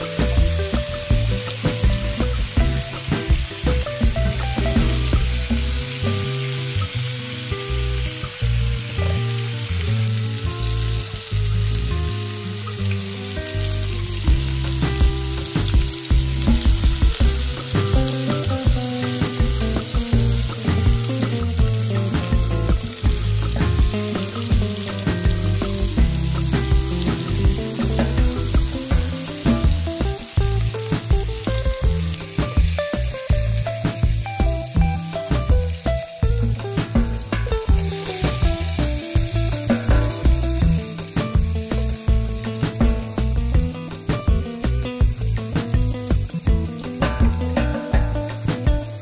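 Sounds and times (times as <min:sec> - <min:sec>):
background music: 0:00.0 - 0:49.0
meat sizzling in a frying pan: 0:00.0 - 0:49.0.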